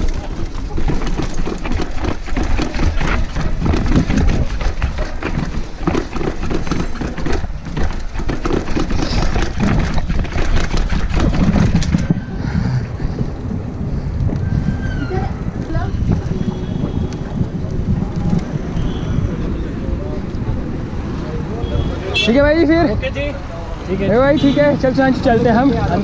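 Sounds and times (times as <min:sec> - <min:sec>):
bike rattling over brick paving: 0:00.0 - 0:21.0, 0:23.9 - 0:26.0
wind rumble: 0:00.0 - 0:26.0.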